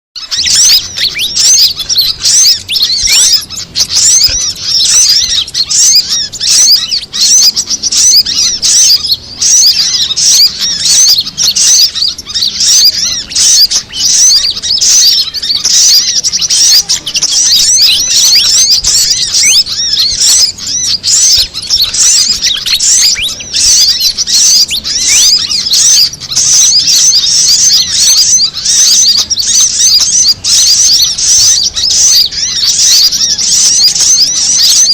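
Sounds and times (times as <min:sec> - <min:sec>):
small songbirds chirping: 0:00.2 - 0:34.9.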